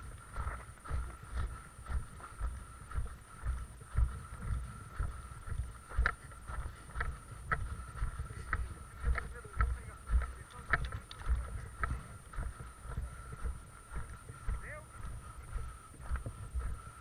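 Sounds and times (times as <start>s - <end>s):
faint steady tone: 0.0s - 17.0s
footstep crunches: 0.0s - 17.0s
footsteps walking: 0.0s - 17.0s.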